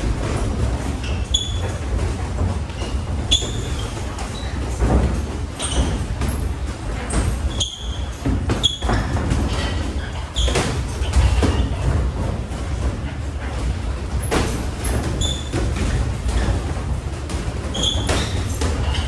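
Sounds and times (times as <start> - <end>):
sports shoes squeaking on floor: 0.0 - 12.2, 14.2 - 16.7, 17.7 - 19.0
thuds: 0.0 - 19.0.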